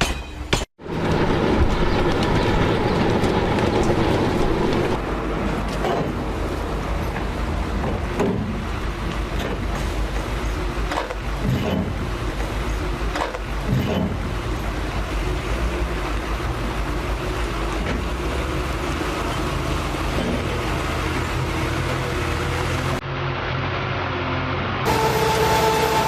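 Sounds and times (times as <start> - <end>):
train running rumble: 0.8 - 23.0, 24.9 - 26.0.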